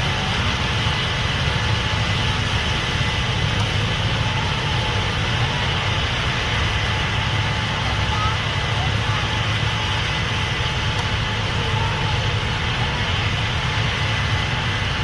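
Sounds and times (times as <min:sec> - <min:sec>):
combine engine drone: 0:00.0 - 0:15.0
faint steady whine: 0:00.0 - 0:15.0.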